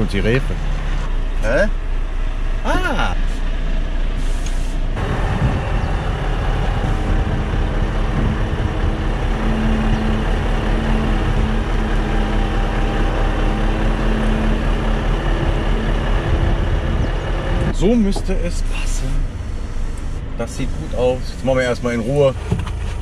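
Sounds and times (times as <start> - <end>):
low hum: 0.0 - 22.0
diesel truck engines idling: 0.0 - 23.0.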